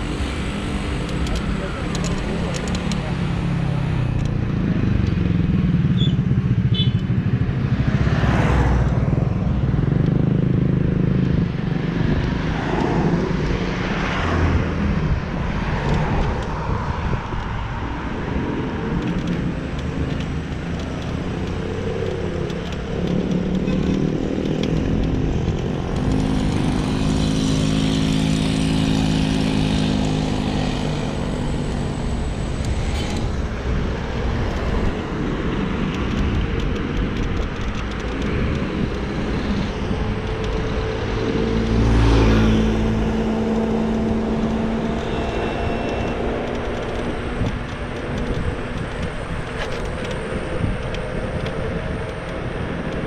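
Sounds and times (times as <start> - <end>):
cars passing: 0.0 - 53.0
vehicle engine humming: 0.0 - 53.0
wind rumble on microphone: 0.0 - 53.0.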